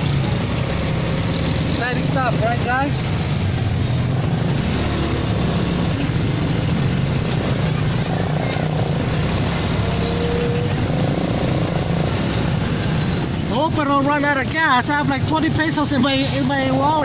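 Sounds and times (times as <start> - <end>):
road noise: 0.0 - 17.0
truck engine hum: 0.0 - 17.0.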